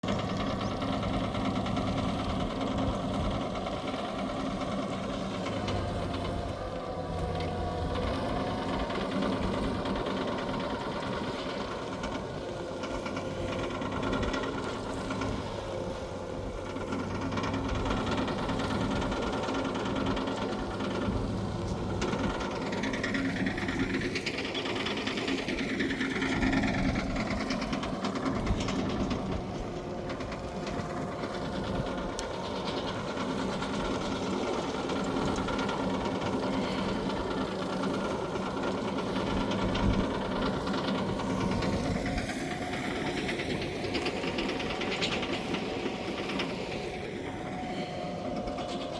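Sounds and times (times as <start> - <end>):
compost turner rotor clattering: 0.0 - 48.9
tractor engine: 0.0 - 48.9.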